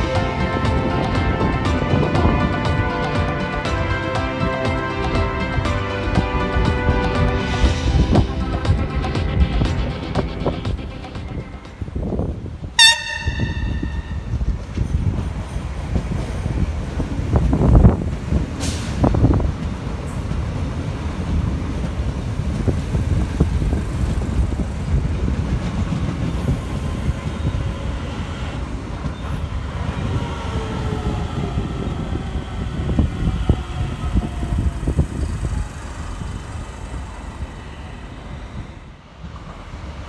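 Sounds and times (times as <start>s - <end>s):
train rolling rumble: 0.0s - 40.0s.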